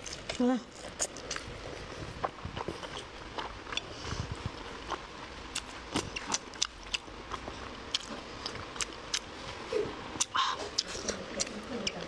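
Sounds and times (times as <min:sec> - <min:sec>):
person chewing wetly: 0:00.0 - 0:09.4, 0:10.2 - 0:12.0.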